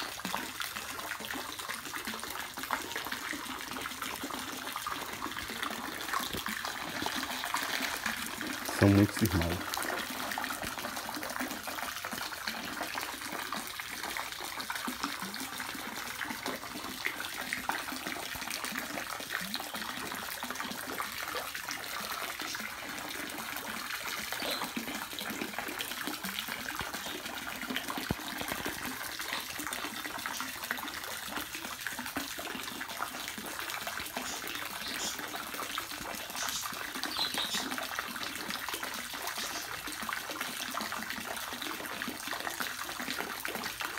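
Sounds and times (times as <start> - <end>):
running water rushing: 0.0 - 43.9.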